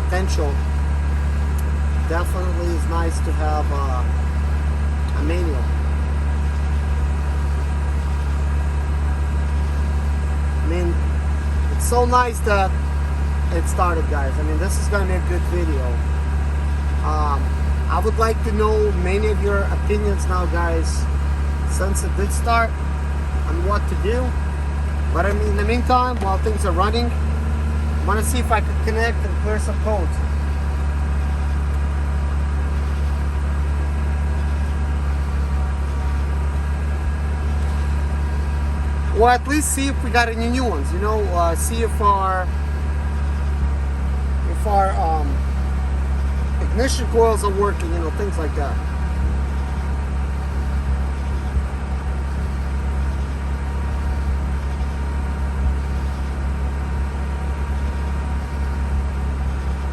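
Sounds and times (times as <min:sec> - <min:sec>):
rotary engine idling: 0:00.0 - 0:59.9.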